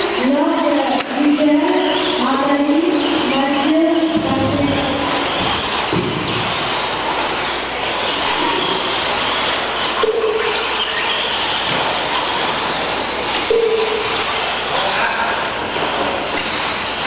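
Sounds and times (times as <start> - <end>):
rc trucks motor whine: 0.0 - 17.0
steady mechanical noise: 0.0 - 17.0.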